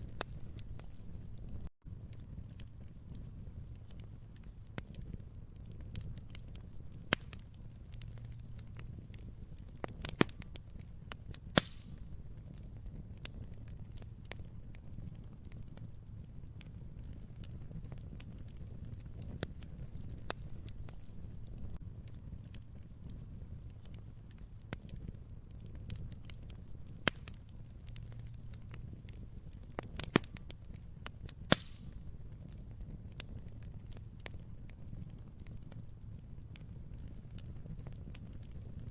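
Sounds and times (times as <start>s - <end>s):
low steady fire rush: 0.0s - 38.9s
wood fire crackling: 0.0s - 38.9s.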